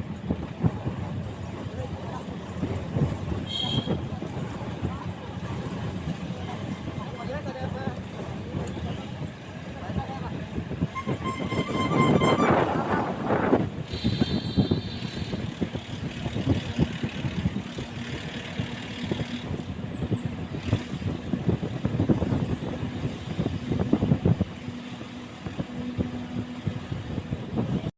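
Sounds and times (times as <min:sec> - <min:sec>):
vehicle engine rumbling and knocking: 0:00.0 - 0:27.9.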